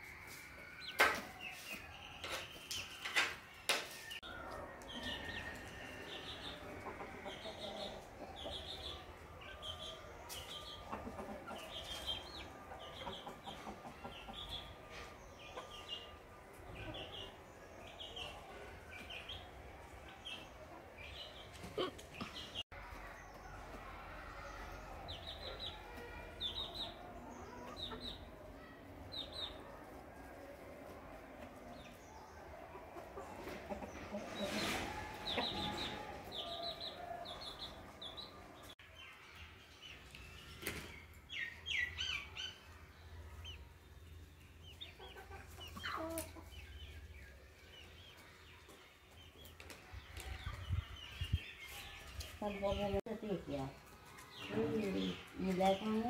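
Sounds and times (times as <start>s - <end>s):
chickens clucking and calling: 0.0s - 39.2s, 39.9s - 56.0s.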